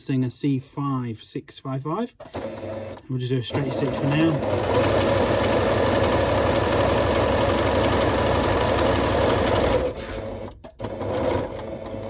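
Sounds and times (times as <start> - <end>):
sewing machine stitching: 2.2 - 12.0.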